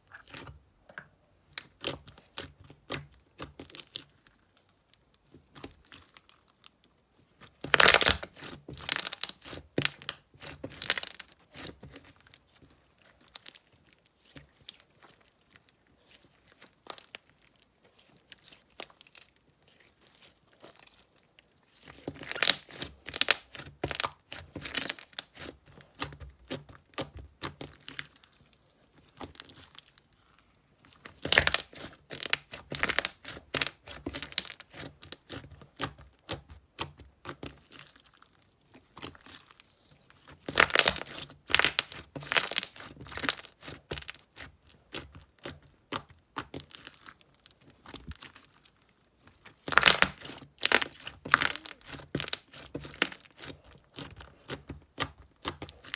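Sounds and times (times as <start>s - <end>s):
slime crackling and popping: 7.4s - 28.5s, 29.1s - 55.9s.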